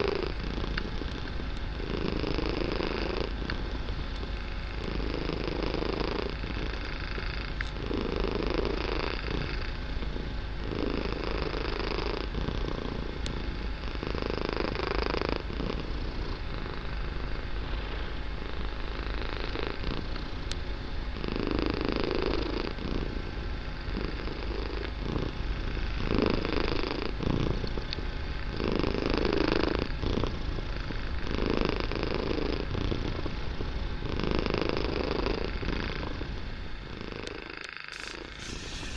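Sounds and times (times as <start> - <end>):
kitten purring: 0.0 - 38.9.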